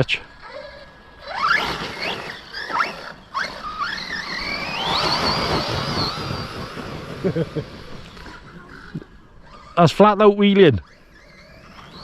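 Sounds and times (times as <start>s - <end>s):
electric motor whining: 0.0s - 9.8s, 10.8s - 12.0s.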